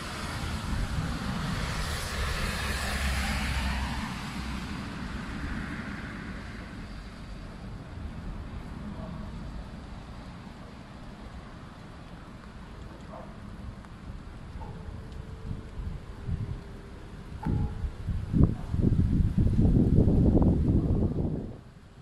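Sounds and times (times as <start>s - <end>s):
car passing on wet road: 0.0s - 22.0s.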